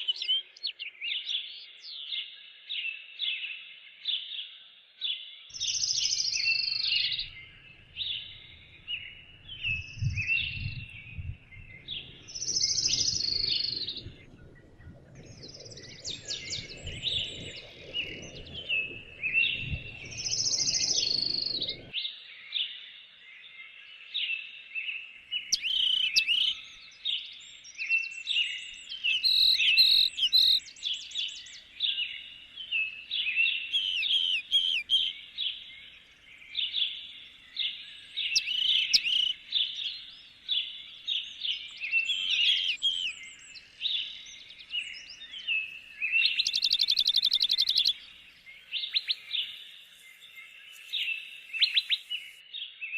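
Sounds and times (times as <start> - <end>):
songbirds singing and chirping: 0.0 - 52.9.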